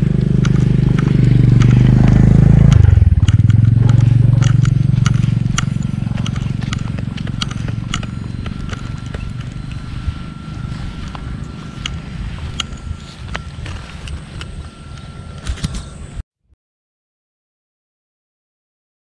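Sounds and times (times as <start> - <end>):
motorcycle passing: 0.0 - 16.2.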